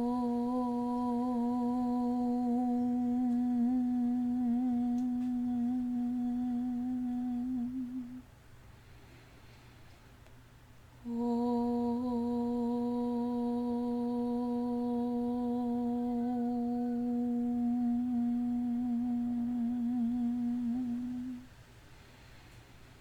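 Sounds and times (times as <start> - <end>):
person humming a long note: 0.0 - 8.2, 11.0 - 21.5.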